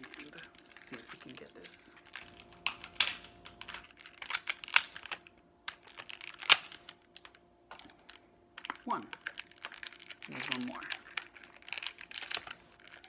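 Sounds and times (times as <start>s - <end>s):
plastic packaging clicking and crinkling: 0.0s - 13.0s.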